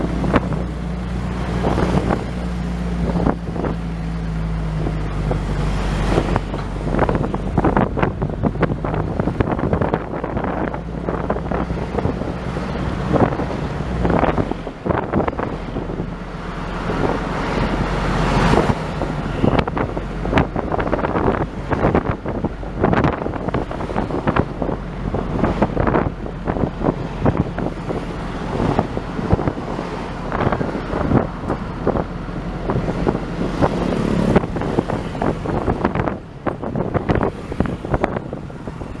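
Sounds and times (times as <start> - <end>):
vehicle engine running: 0.0 - 39.0
wind buffeting microphone: 0.0 - 39.0.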